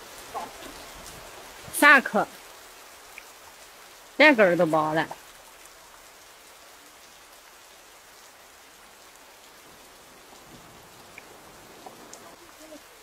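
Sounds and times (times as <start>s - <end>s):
faint rain pattering: 0.0s - 13.0s.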